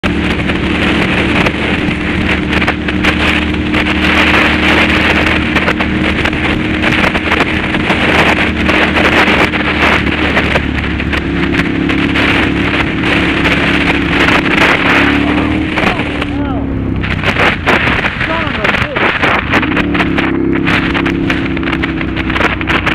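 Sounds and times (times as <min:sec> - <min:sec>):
motorcycle engine running: 0:00.0 - 0:22.9
wind noise on microphone: 0:00.0 - 0:22.9.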